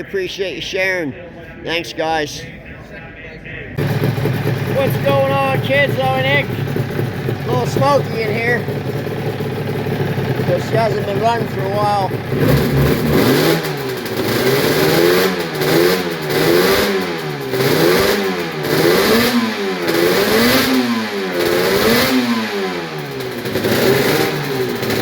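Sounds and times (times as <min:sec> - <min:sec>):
two-stroke engine revving: 0:03.8 - 0:25.0.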